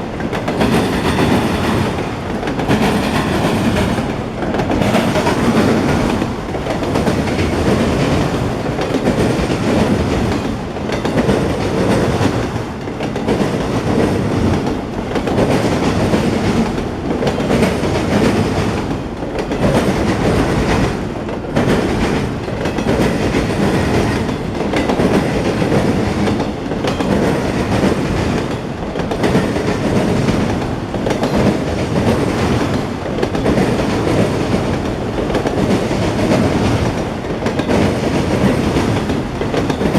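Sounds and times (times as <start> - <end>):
freight train wheels clicking: 0.0 - 39.9.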